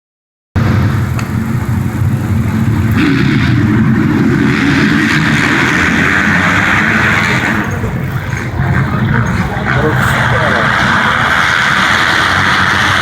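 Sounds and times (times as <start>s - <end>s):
motorcycle engines running hard: 0.6s - 13.0s.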